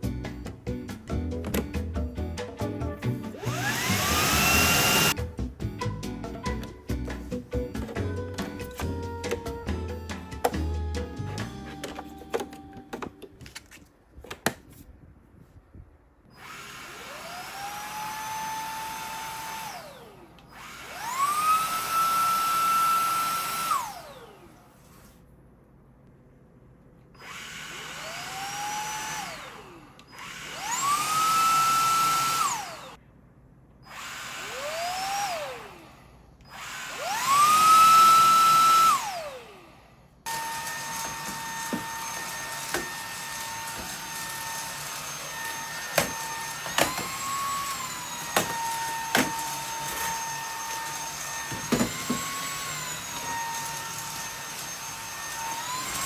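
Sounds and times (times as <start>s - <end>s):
stick vacuum motor whining: 1.3s - 13.4s, 16.3s - 24.7s, 27.2s - 33.0s, 33.8s - 56.0s.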